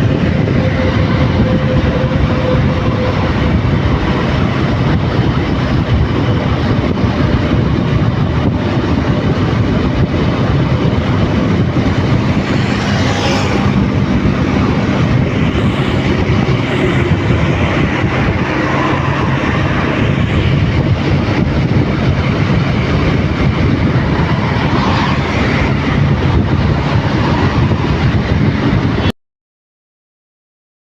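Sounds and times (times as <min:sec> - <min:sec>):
motorcycle engine hum: 0:00.0 - 0:29.1
wind rushing on microphone: 0:00.0 - 0:29.1.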